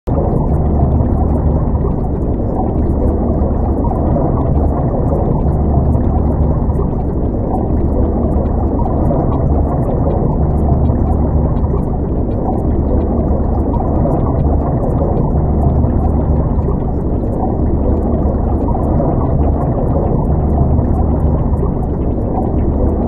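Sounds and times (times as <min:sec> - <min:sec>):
muffled underwater water rush: 0:00.0 - 0:23.0.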